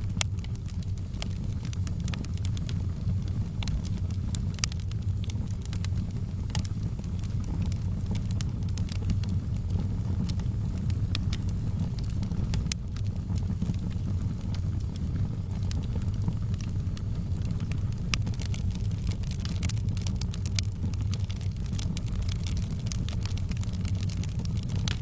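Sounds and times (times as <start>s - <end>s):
fire crackling and popping: 0.0s - 25.0s
wood fire burning: 0.0s - 25.0s.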